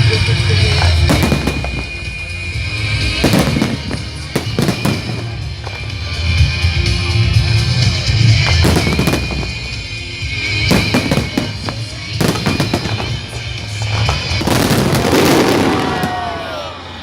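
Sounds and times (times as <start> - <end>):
fireworks bursting: 0.0 - 17.0
loud music: 0.0 - 17.0.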